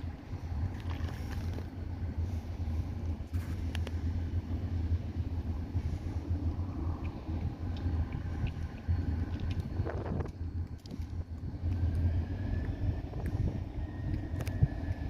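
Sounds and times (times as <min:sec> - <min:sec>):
locomotive engine rumbling: 0:00.0 - 0:15.0.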